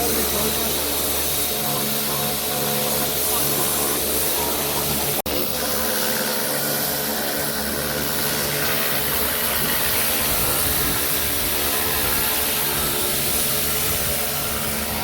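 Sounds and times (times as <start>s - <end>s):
pressure washer running: 0.0s - 15.0s.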